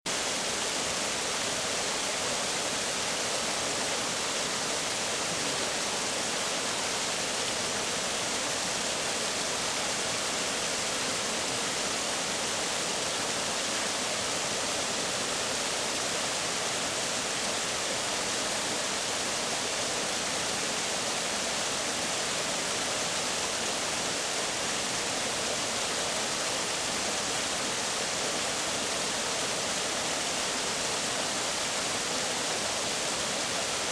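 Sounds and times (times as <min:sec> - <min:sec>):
waterfall rushing water: 0:00.1 - 0:33.9.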